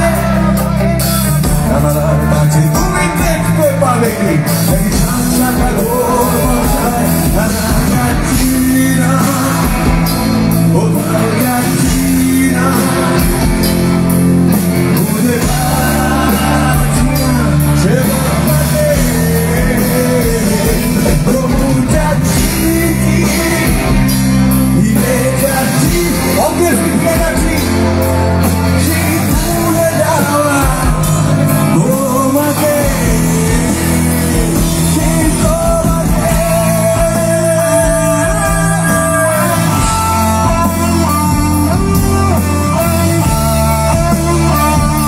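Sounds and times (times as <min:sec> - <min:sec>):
live rock band: 0:00.0 - 0:45.0
man singing: 0:00.0 - 0:45.0.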